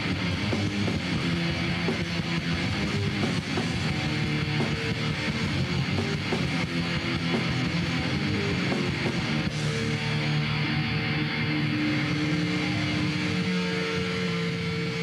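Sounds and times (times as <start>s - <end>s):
bass guitar: 0.0s - 15.0s
guitar strumming: 0.0s - 15.0s
instrumental rock music: 0.0s - 15.0s.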